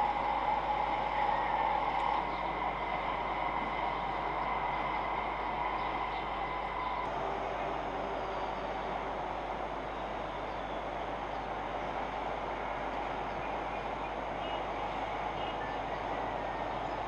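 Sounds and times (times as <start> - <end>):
city traffic noise: 0.0 - 17.0.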